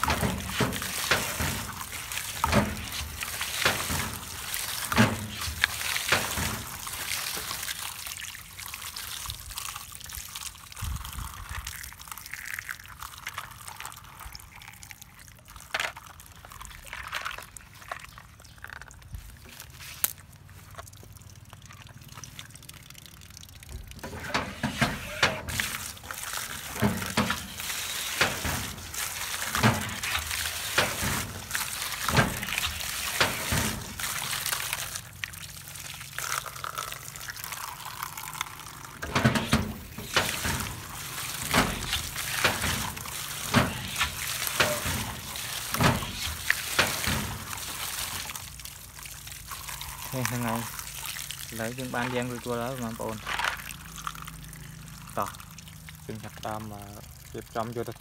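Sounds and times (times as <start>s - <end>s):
water pouring and splashing: 0.0s - 58.0s
water spattering onto grass: 0.0s - 58.0s.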